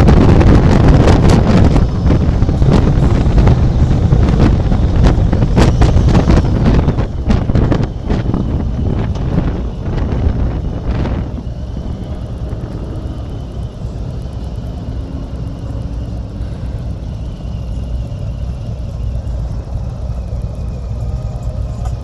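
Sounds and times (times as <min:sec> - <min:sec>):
wind on microphone: 0:00.0 - 0:19.8
motorcycle engine and road rumble: 0:00.0 - 0:22.0.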